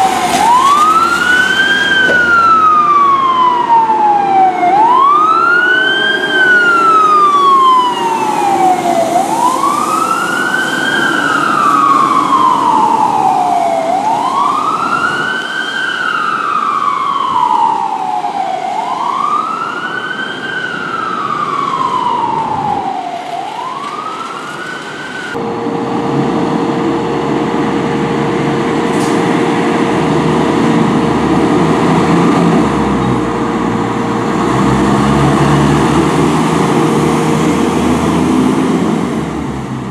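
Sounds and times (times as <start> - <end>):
fire truck engine humming: 0.0 - 39.9
fire truck siren wailing: 0.0 - 39.9.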